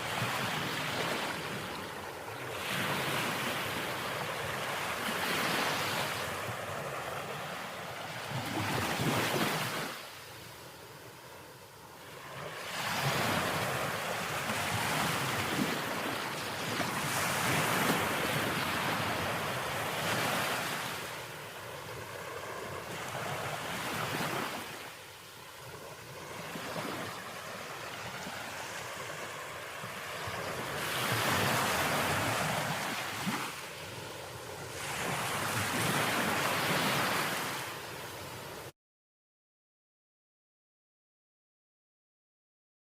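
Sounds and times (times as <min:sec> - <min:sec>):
ocean waves breaking: 0:00.0 - 0:38.7.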